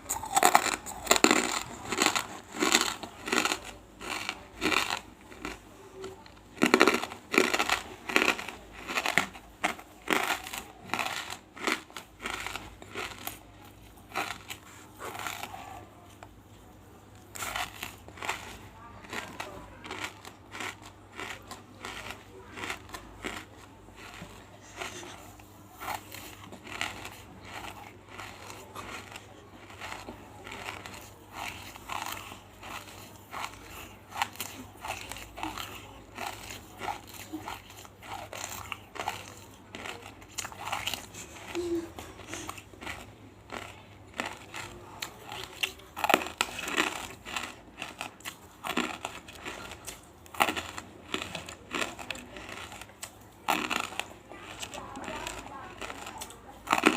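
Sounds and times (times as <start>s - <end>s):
crunching brittle pieces in mouth: 0.0s - 16.3s, 17.3s - 41.6s, 42.2s - 56.9s.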